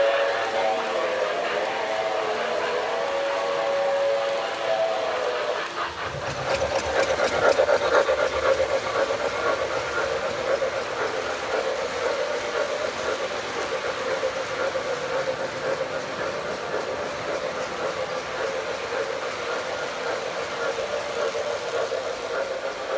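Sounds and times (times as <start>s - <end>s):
model train wheels rumbling on track: 0.0s - 22.9s.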